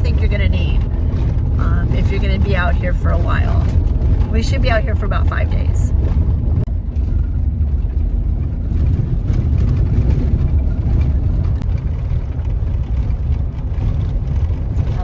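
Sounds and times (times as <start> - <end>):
truck engine and tyres rumbling: 0.0 - 15.0.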